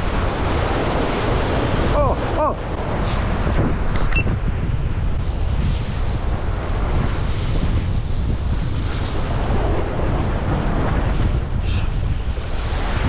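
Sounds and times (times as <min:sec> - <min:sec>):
sea surf breaking on rocks: 0:00.0 - 0:13.0
wind buffeting microphone: 0:00.0 - 0:13.0.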